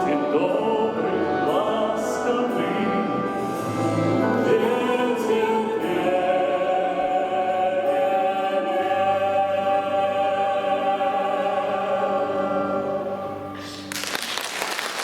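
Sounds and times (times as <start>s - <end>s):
vocal quartet singing: 0.0s - 13.9s.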